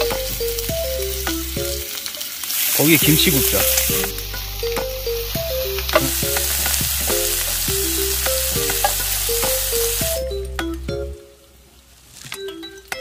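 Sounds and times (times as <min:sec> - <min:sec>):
food sizzling on grill plate: 0:00.0 - 0:10.4
light background music: 0:00.0 - 0:11.6.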